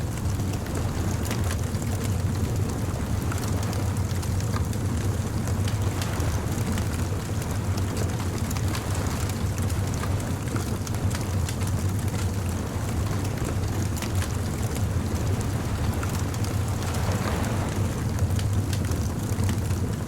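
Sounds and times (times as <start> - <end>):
steady low rumble: 0.0 - 20.0
wood fire crackling and popping: 0.1 - 20.0.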